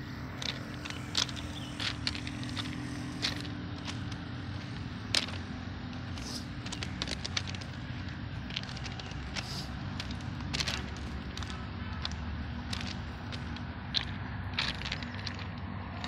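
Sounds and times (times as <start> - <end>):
footsteps crunching on stones: 0.0 - 16.0
steady low rumble: 0.0 - 16.0.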